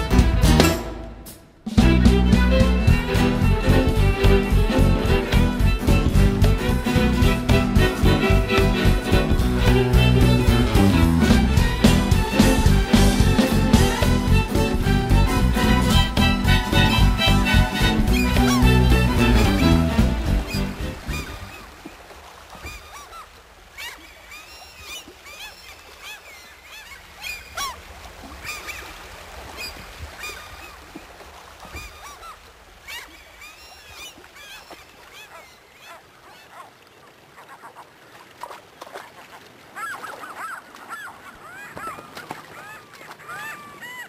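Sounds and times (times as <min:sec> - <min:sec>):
water birds calling: 0:00.0 - 0:44.0.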